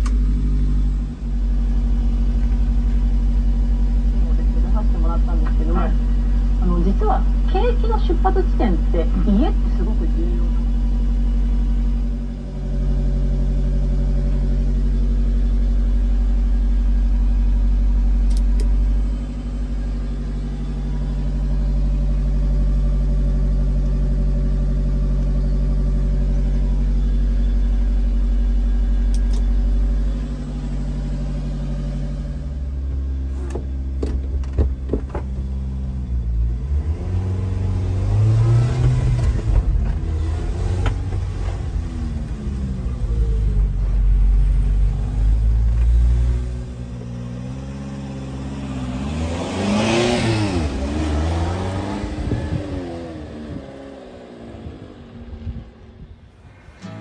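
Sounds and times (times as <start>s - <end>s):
truck engine idling: 0.0s - 36.4s, 38.9s - 48.9s.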